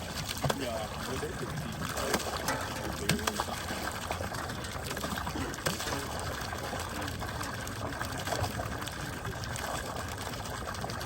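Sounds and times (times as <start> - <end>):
water pouring into lake: 0.0 - 11.0.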